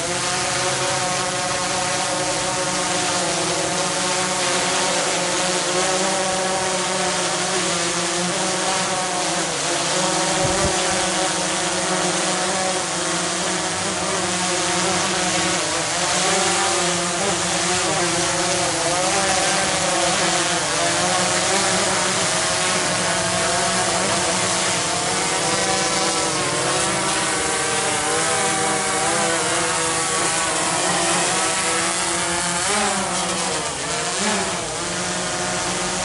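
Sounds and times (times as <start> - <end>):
drone propellers buzzing: 0.0 - 36.0.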